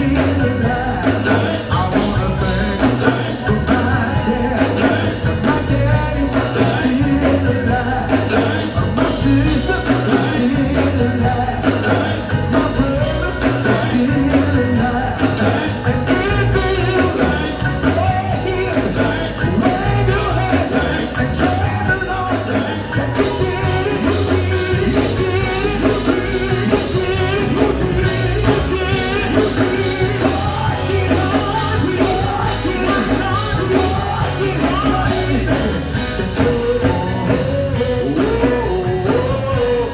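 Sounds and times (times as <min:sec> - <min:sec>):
gospel band and singers: 0:00.0 - 0:39.9.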